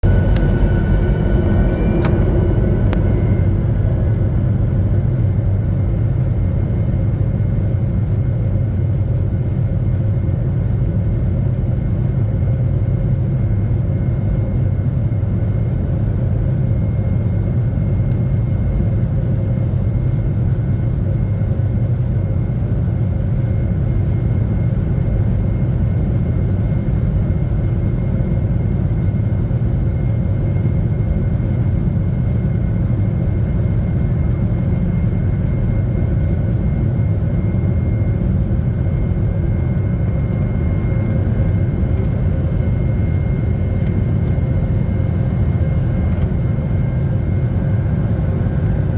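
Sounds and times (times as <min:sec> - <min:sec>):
faint steady whine: 0:00.0 - 0:48.9
jet engine low rumble: 0:00.0 - 0:48.9.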